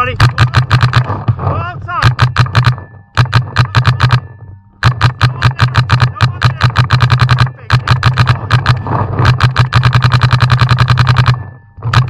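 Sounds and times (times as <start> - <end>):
paintball marker firing: 0.0 - 1.3, 2.0 - 12.0.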